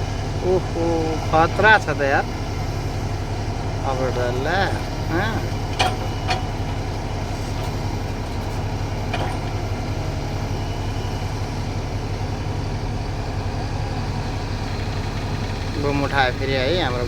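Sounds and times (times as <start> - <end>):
excavator diesel engine drone: 0.0 - 17.0.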